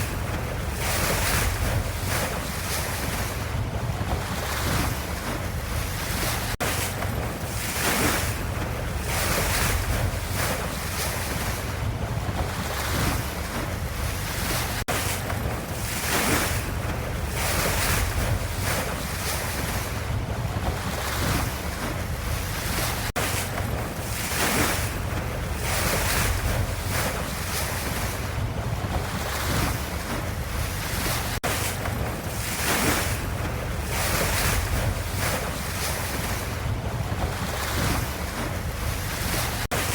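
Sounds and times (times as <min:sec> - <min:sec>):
ocean waves rushing: 0:00.0 - 0:39.9.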